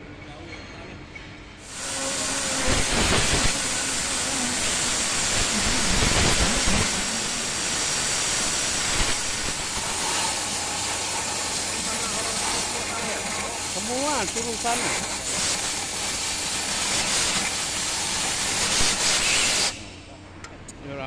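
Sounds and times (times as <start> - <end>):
air blow gun hissing: 1.6 - 20.0.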